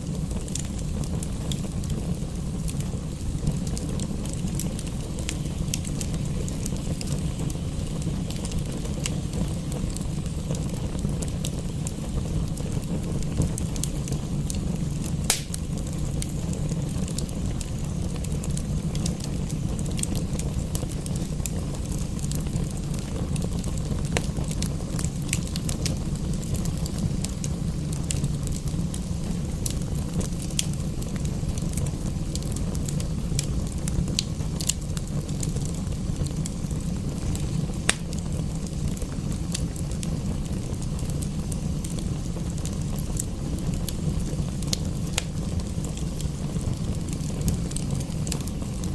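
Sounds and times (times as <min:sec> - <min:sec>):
sharp pops of fire: 0:00.0 - 0:48.9
wood fire crackling: 0:00.0 - 0:48.9.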